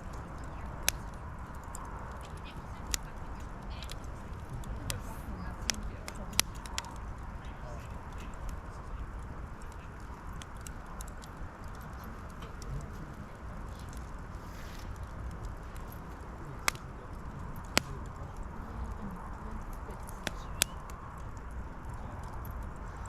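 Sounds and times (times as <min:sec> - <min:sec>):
brushwood fire crackling: 0:00.0 - 0:23.0.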